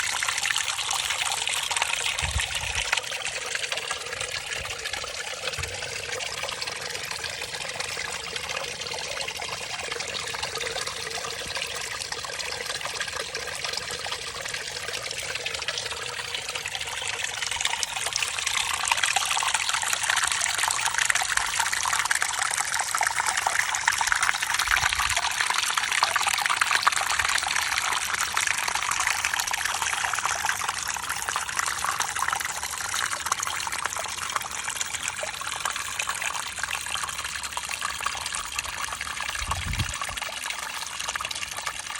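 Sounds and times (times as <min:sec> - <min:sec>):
stream trickling and gurgling: 0:00.0 - 0:41.9.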